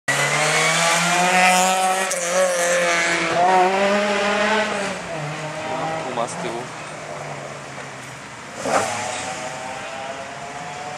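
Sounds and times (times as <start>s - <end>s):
rally car engine revving past: 0.1s - 7.4s, 8.5s - 10.9s.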